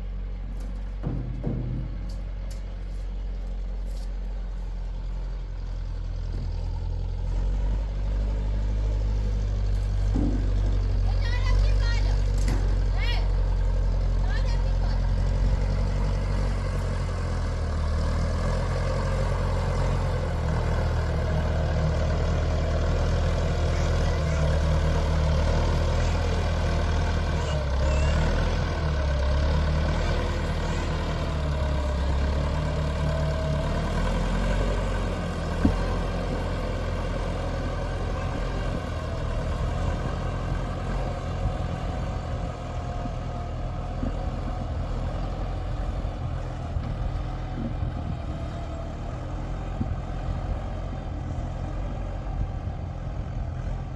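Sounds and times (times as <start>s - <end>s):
engine rumbling: 0.0s - 53.9s.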